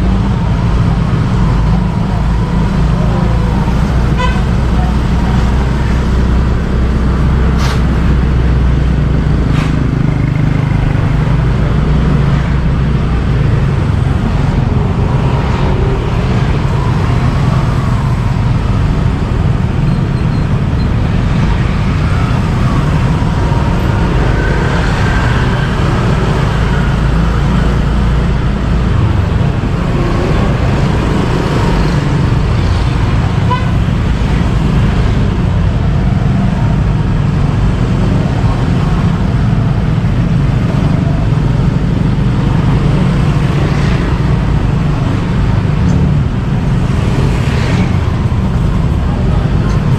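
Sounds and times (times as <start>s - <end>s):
motorbike engine and road rumble: 0.0s - 49.9s
traffic: 0.0s - 49.9s.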